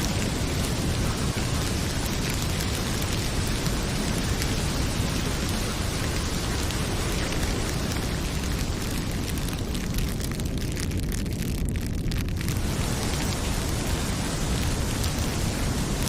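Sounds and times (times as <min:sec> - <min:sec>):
fireplace crackling: 0:00.0 - 0:16.0
heavy rain pouring: 0:00.0 - 0:16.0.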